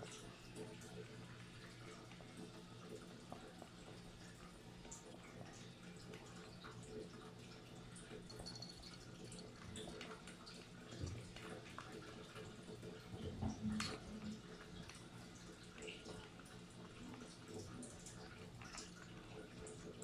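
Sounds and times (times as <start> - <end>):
cat eating wet food: 0.0 - 13.2, 13.9 - 20.0.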